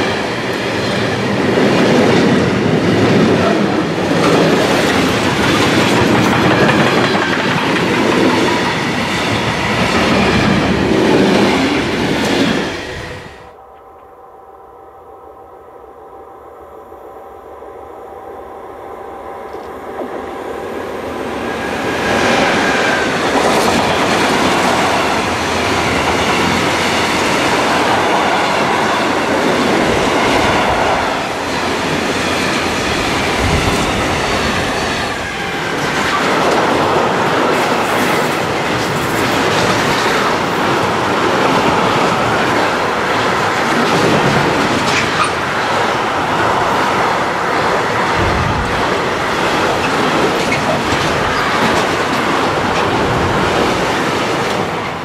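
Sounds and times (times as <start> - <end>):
train wheel and rail clatter: 0.0 - 13.4, 19.4 - 55.0
electric locomotive hum: 0.0 - 55.0.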